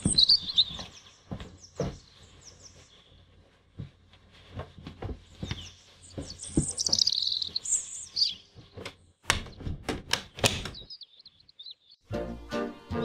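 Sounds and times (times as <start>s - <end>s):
small birds chirping: 0.0s - 4.6s, 5.2s - 12.1s.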